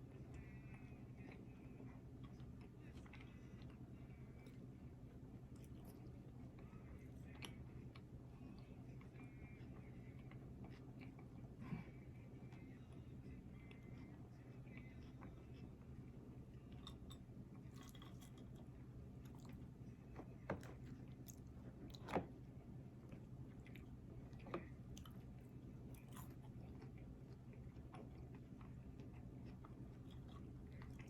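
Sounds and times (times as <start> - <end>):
steady low hum: 0.0 - 31.0
chewing and biting food: 0.2 - 11.6, 12.3 - 31.0.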